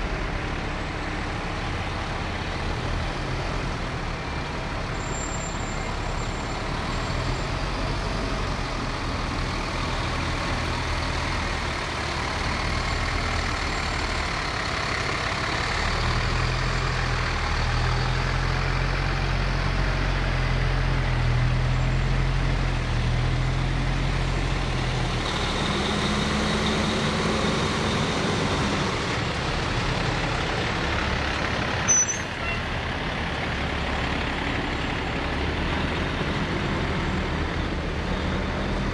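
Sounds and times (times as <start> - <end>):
fire truck engines rumbling: 0.0 - 38.9.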